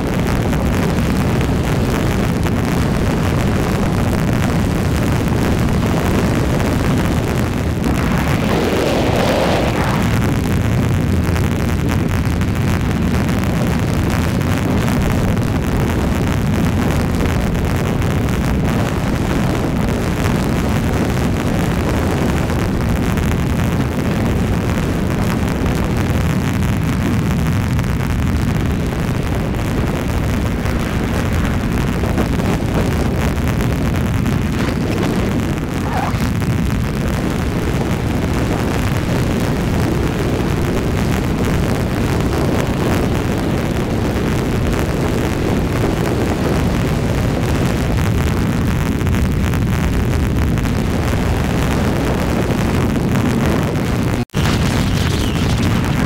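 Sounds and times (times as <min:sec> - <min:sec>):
wind noise on microphone: 0:00.0 - 0:56.0.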